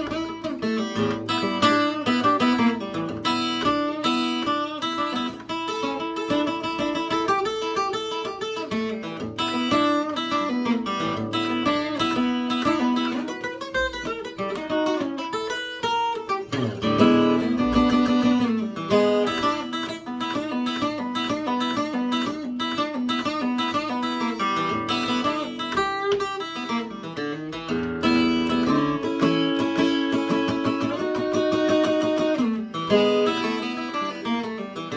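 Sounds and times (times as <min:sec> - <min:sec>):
acoustic guitar playing: 0:00.0 - 0:34.9.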